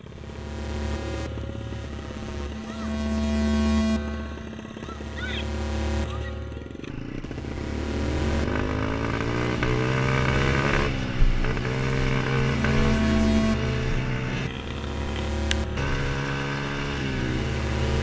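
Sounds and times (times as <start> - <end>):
motorbike engine accelerating: 0.0 - 18.0.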